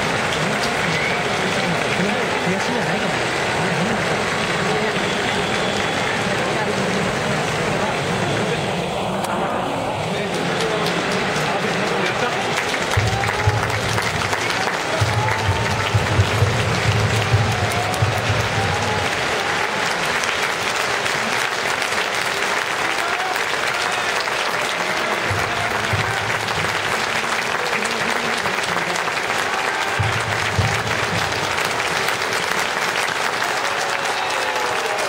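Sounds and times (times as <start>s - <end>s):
crowd applauding: 0.0s - 35.0s.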